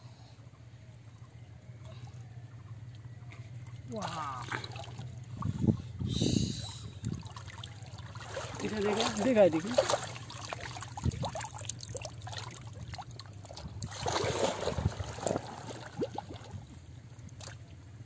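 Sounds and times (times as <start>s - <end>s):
water splashing and sloshing: 1.8s - 18.0s.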